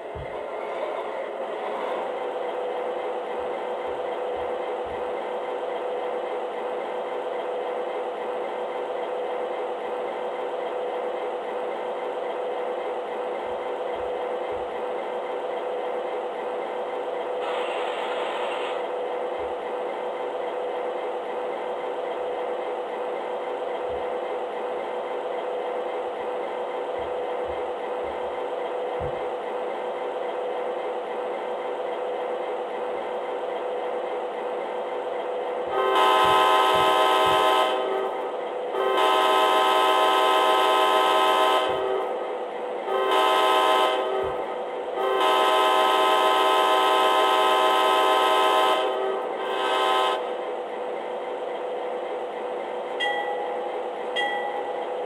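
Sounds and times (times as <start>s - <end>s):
model locomotive diesel idle: 0.0s - 55.0s.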